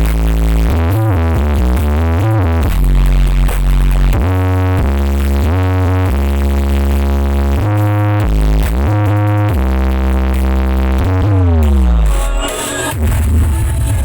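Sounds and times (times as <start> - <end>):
deep sliding bass notes: 0.0 - 14.0
electronic dance music: 0.0 - 14.0.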